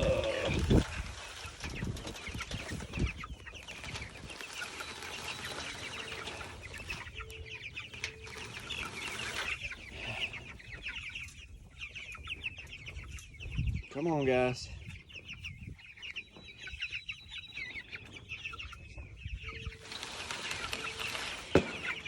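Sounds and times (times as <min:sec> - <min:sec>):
chickens cheeping and clucking: 0:00.0 - 0:22.0.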